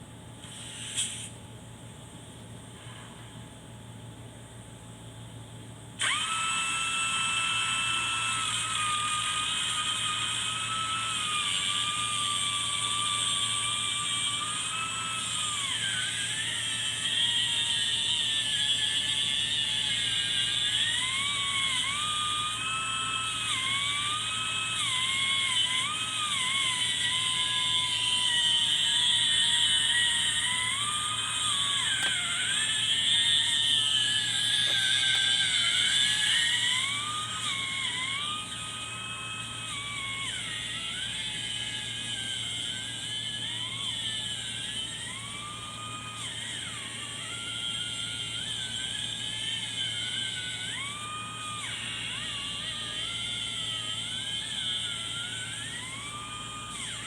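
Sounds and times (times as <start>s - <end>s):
angle grinder whining: 6.0s - 57.0s.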